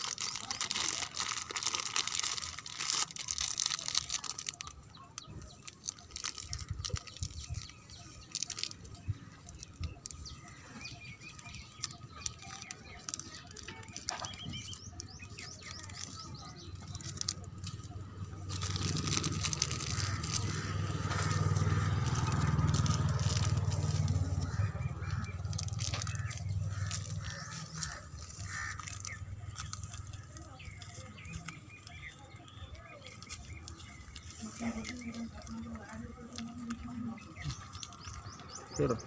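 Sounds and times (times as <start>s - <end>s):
plastic wrapping rustling: 0.0s - 38.4s.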